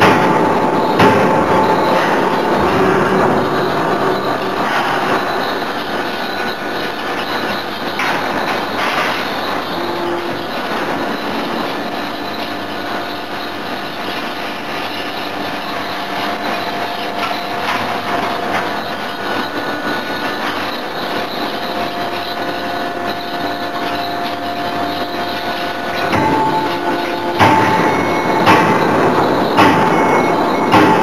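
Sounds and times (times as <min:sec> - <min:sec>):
forging machinery running: 0:00.0 - 0:31.0.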